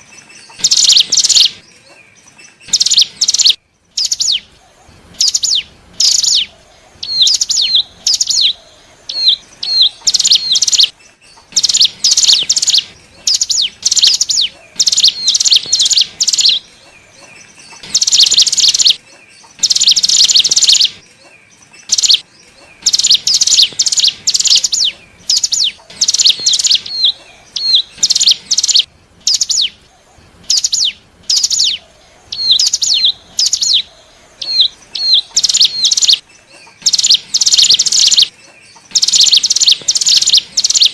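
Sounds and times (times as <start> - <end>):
bird chattering: 0.0 - 40.9.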